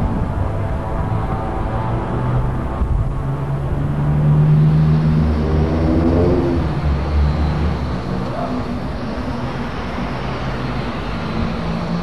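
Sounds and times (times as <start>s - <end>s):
low engine hum: 0.0s - 12.0s
steady rumbling background noise: 0.0s - 12.0s.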